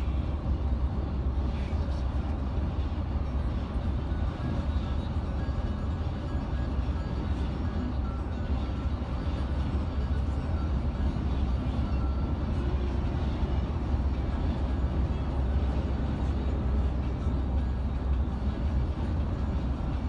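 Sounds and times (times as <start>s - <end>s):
coach engine and tyre rumble: 0.0s - 20.0s.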